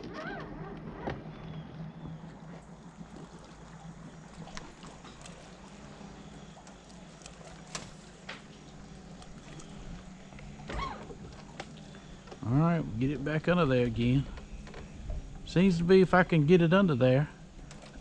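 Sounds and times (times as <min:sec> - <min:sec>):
light clicks and knocks on boat: 0:00.0 - 0:16.8, 0:17.4 - 0:18.0.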